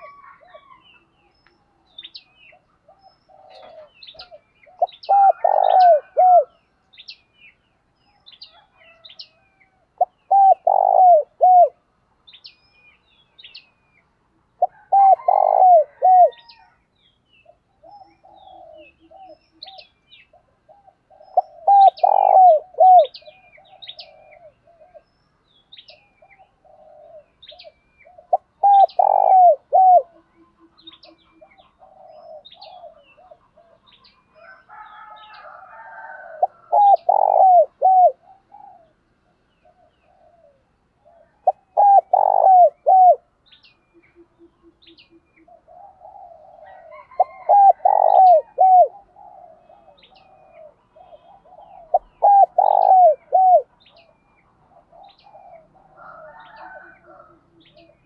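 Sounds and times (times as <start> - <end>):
dove cooing: 0.0 - 6.6, 8.4 - 11.9, 14.5 - 16.8, 17.4 - 25.1, 25.9 - 58.0
small birds chirping: 0.0 - 58.0.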